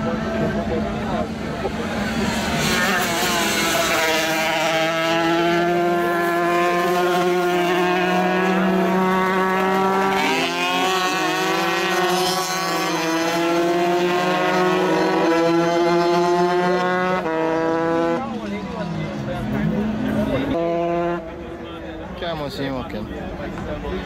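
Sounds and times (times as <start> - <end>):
motorcycle engines at high revs: 0.0 - 21.4.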